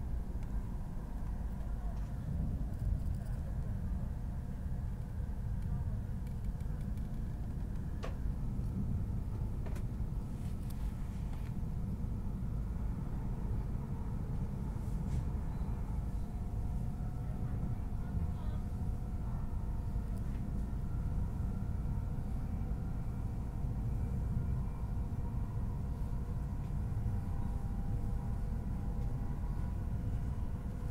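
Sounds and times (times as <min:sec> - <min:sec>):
faint steady whine: 0:00.0 - 0:30.9
train cabin low rumble: 0:00.0 - 0:30.9.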